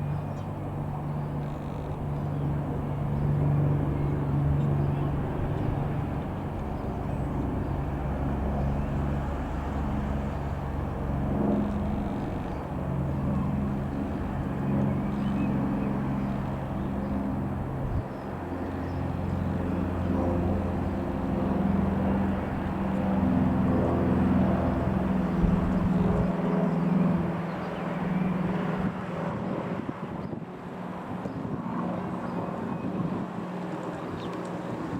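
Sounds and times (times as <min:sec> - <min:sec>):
light aircraft engine drone: 0:00.0 - 0:34.9.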